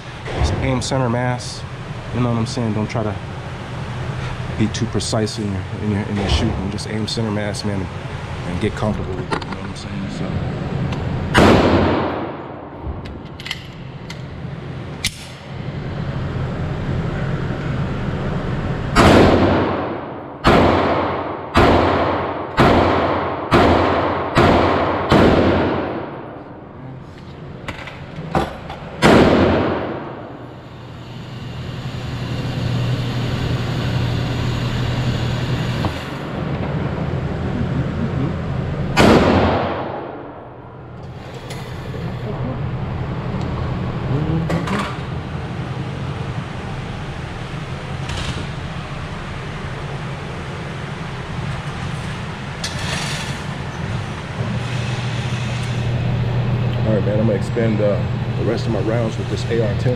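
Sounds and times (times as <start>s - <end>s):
ventilation hum: 0.0s - 59.9s.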